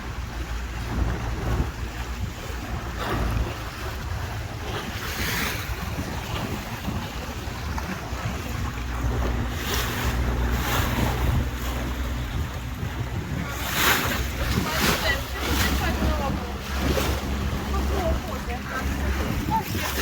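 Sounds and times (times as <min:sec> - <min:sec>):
boat engine droning: 0:00.0 - 0:20.0
water splashing along hull: 0:00.0 - 0:20.0
wind buffeting microphone: 0:00.0 - 0:20.0.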